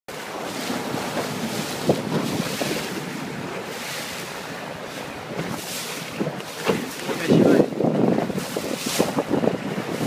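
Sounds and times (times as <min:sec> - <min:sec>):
water rushing past boat: 0:00.1 - 0:10.0
wind buffeting microphone: 0:00.1 - 0:10.0.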